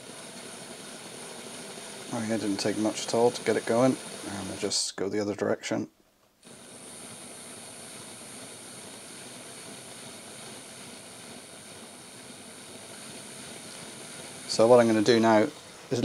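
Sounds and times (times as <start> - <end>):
model locomotive motor whirring: 0.0 - 4.7, 6.4 - 16.0
thin high whine: 0.0 - 5.7, 6.4 - 16.0.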